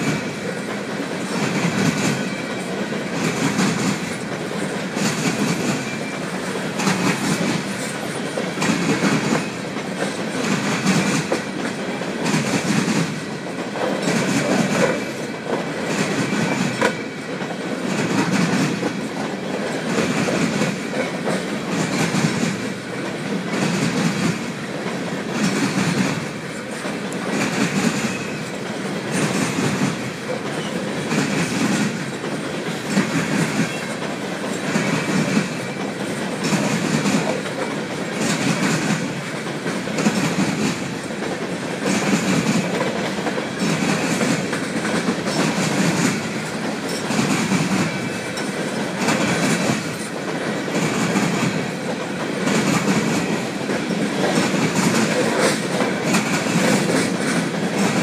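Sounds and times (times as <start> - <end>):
freight train rolling past: 0.0 - 58.0
wheels clicking over rail joints: 0.0 - 58.0.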